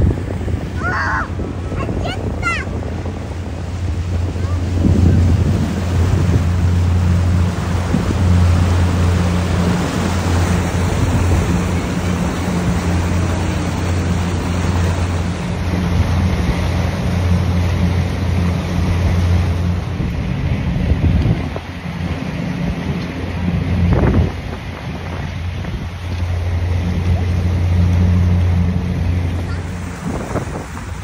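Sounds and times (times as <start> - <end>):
motorboat engine droning: 0.0 - 31.0
wind and water rushing: 0.0 - 31.0.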